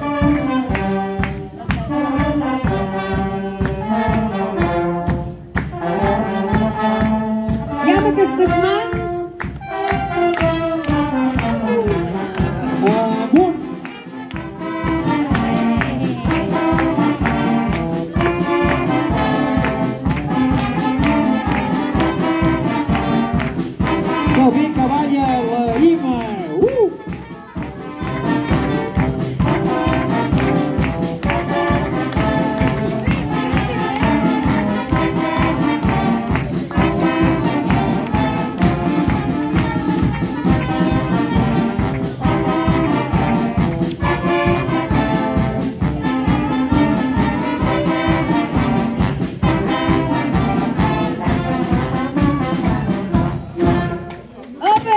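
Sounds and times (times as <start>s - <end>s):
brass band playing a tune: 0.0s - 54.9s
steady drum beat: 0.0s - 54.9s.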